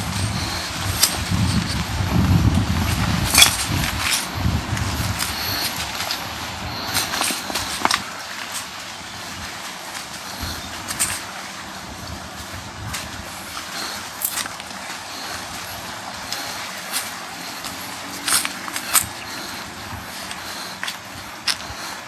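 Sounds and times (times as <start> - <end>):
sea breeze and surf: 0.0 - 22.0.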